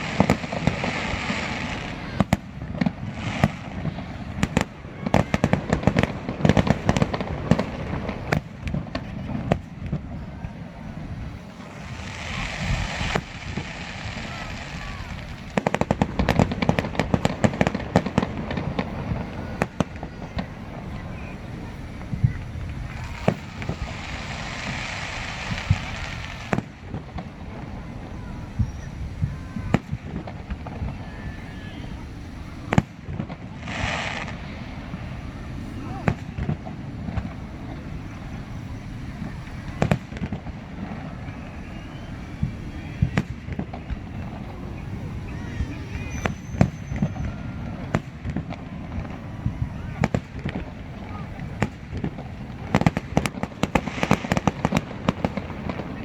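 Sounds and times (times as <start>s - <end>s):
aerial fireworks crackling: 0.0s - 56.0s.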